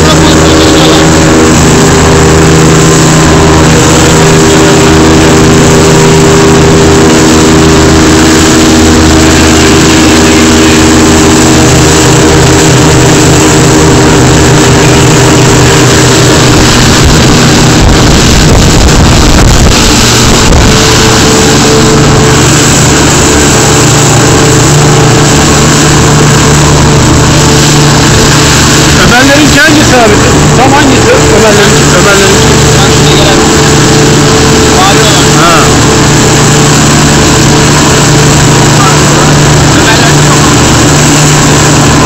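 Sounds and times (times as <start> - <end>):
motorboat engine drone: 0.0 - 42.0
rushing water and spray: 0.0 - 42.0.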